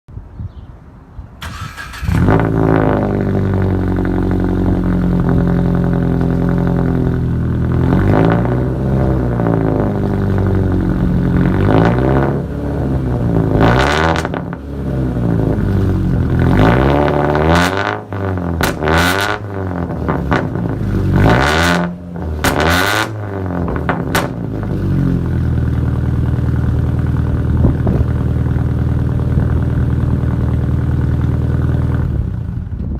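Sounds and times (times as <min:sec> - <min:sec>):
car engine idling and revving: 0:01.4 - 0:32.9.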